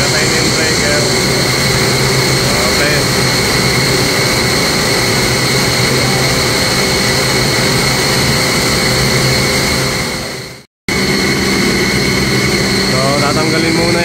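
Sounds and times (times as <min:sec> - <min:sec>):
machinery drone with high whine: 0:00.0 - 0:14.0.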